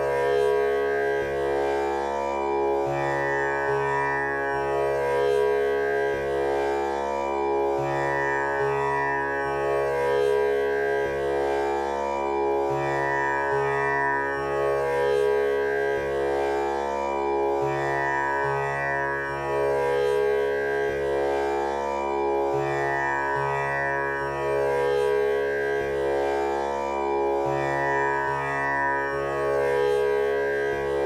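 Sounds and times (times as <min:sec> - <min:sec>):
tanpura drone: 0:00.0 - 0:31.0.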